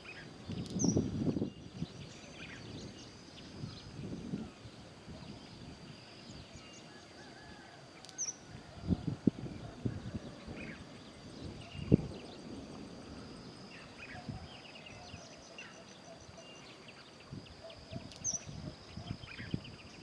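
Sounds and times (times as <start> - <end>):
faint bird chirps: 0.0 - 20.0
steady high-pitched whine: 0.0 - 20.0.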